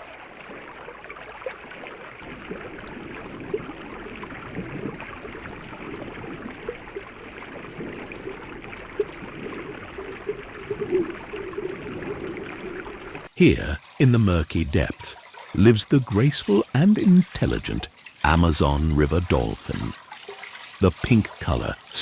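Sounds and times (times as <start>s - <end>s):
small splashes and drips: 0.0s - 14.0s, 15.1s - 15.6s, 17.8s - 22.0s
water running: 0.0s - 22.0s.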